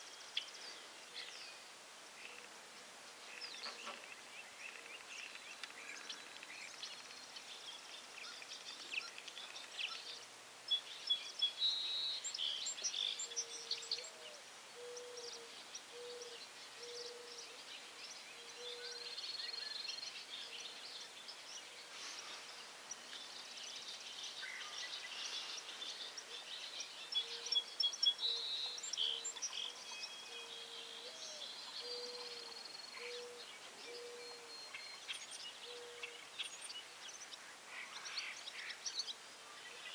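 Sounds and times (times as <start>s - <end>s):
birds chirping and calling: 3.3s - 39.9s.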